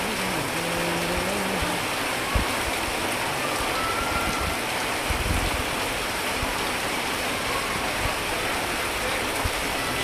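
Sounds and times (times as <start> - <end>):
heavy rain splashing into floodwater: 0.0 - 10.0.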